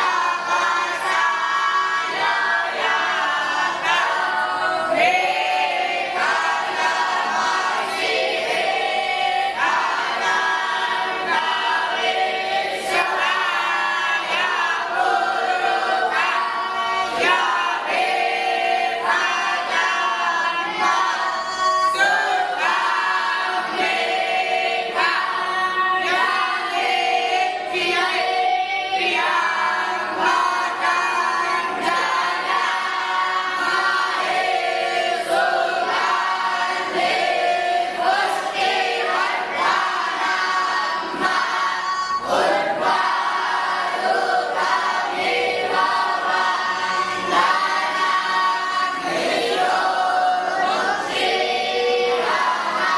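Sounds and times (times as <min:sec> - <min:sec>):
group chanting in unison: 0:00.0 - 0:52.9.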